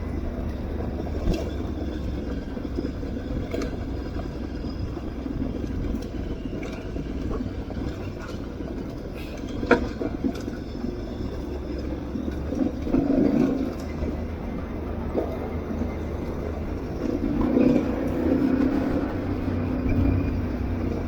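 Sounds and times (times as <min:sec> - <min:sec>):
tyres on gravel: 0:00.0 - 0:21.0.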